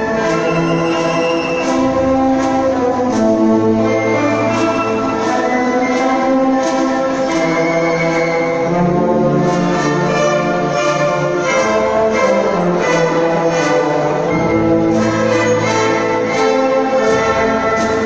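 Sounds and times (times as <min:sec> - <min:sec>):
orchestra playing held chords: 0:00.0 - 0:18.0.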